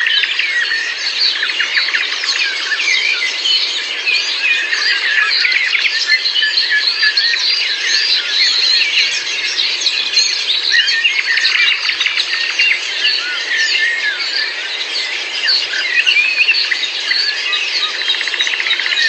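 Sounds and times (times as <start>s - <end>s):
songbird chorus: 0.0s - 19.0s.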